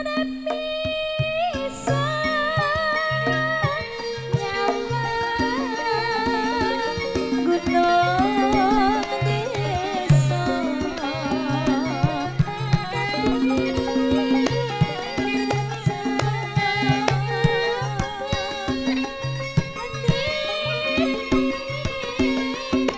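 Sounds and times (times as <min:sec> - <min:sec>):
hand drum strokes: 0:00.0 - 0:22.9
sustained metallophone tones: 0:00.0 - 0:22.9
woman singing ornamented melody: 0:00.0 - 0:22.9.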